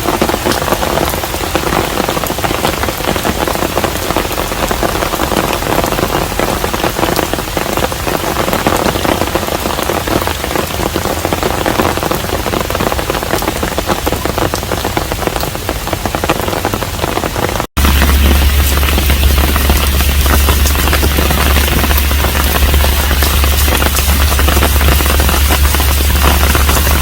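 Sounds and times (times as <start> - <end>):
individual raindrop hits: 0.0 - 27.0
steady rain falling: 0.0 - 27.0.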